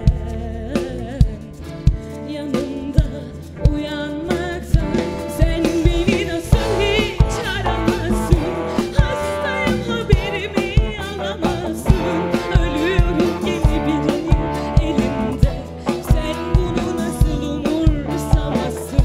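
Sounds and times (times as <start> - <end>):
backing track with drum beat: 0.0 - 19.0
woman singing into a microphone: 0.0 - 19.0.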